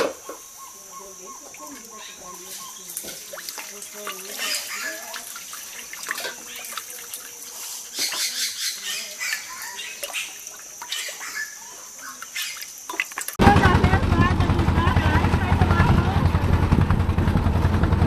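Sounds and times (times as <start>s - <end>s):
water splashing and sloshing: 0.0s - 17.1s.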